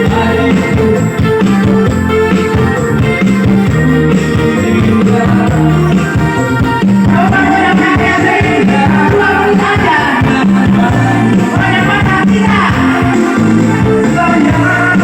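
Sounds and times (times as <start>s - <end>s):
song with vocals and beat: 0.0s - 15.0s.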